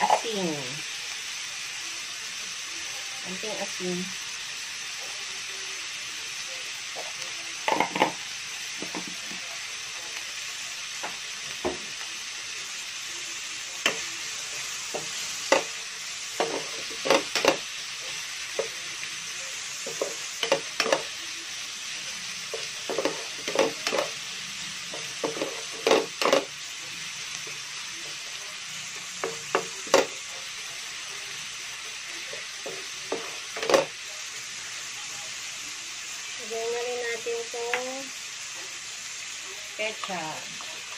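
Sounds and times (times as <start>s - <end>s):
vegetables sizzling in a frying pan: 0.0s - 40.9s.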